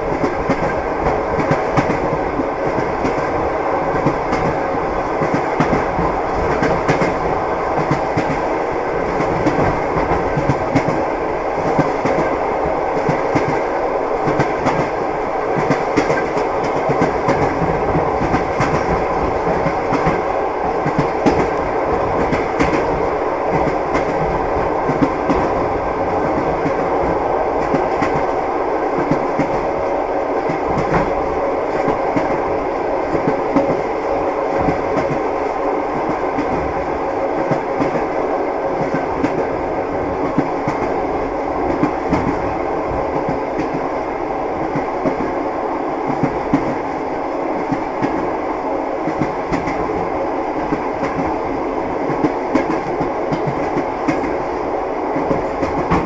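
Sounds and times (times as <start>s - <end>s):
railway carriage rumble: 0.0s - 56.0s.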